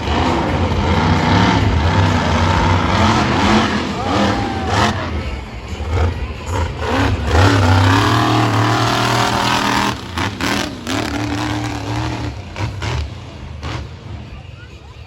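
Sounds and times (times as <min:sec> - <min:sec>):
truck engine revving hard: 0:00.0 - 0:14.8.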